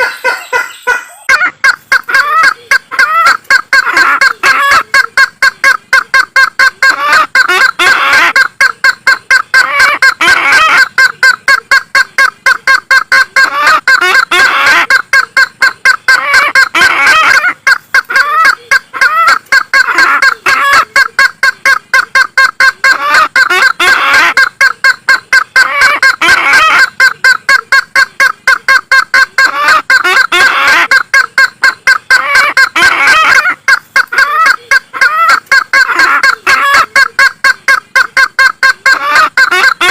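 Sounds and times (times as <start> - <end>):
bird call rapid repeated notes: 0.0 - 39.9.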